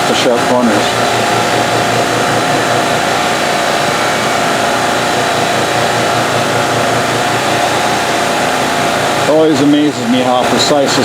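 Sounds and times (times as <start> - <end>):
milling machine running: 0.0 - 11.0.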